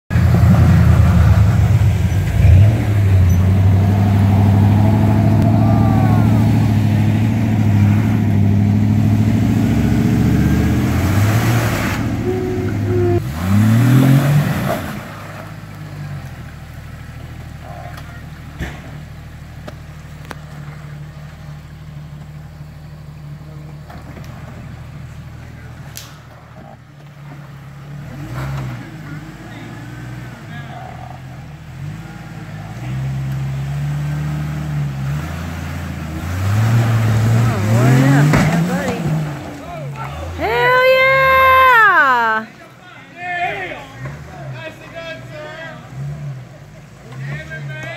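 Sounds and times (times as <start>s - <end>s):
engine working under load: 0.1s - 42.6s.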